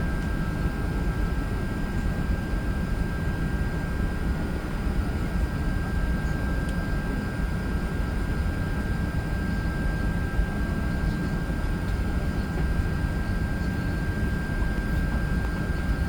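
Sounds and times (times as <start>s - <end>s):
airplane cabin rumble and hiss: 0.0s - 16.0s.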